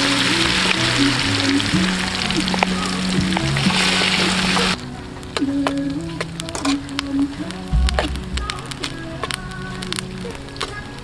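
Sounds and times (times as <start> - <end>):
background music: 0.0 - 11.0
hot oil sizzling: 0.0 - 11.0.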